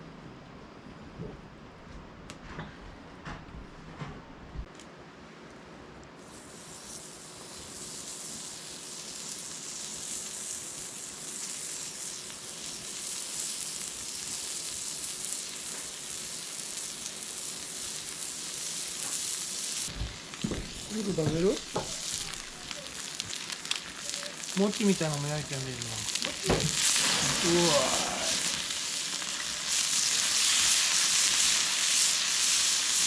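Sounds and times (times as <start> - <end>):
meat sizzling on griddle: 6.2 - 33.0.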